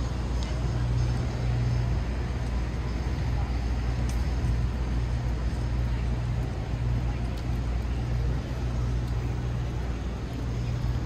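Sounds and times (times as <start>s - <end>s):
steady low hum: 0.0s - 11.0s
traffic rumble: 0.0s - 11.0s.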